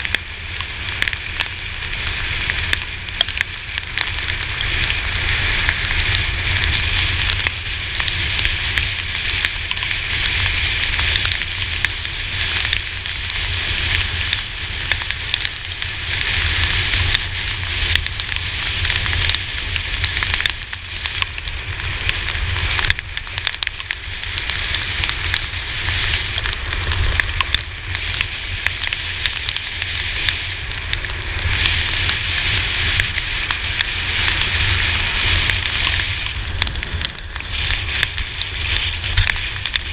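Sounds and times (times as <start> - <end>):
rain pattering on camera: 0.0 - 39.9
scooter low rumble: 0.0 - 39.9.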